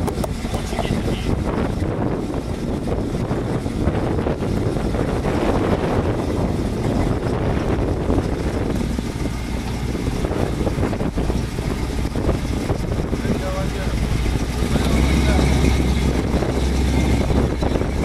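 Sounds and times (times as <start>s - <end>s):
engine running under load: 0.0s - 18.0s.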